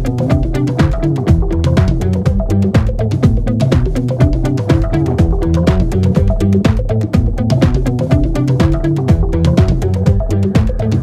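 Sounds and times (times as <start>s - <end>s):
background music with drum beat: 0.0s - 11.0s
stepping bass line: 0.0s - 11.0s.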